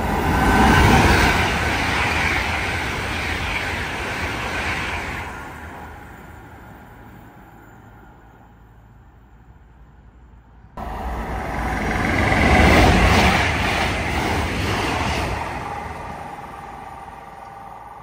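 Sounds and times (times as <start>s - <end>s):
train passing rushing noise: 0.0s - 9.8s, 10.4s - 18.0s.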